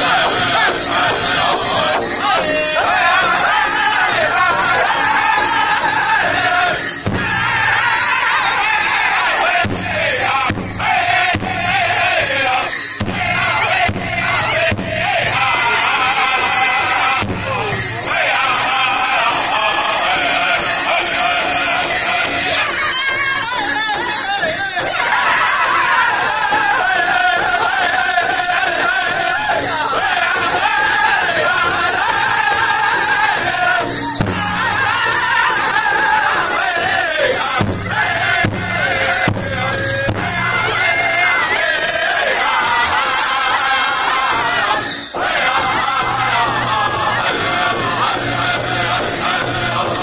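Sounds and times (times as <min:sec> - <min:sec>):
large drum beats: 0:00.0 - 0:50.0
men singing in high voices: 0:00.0 - 0:50.0.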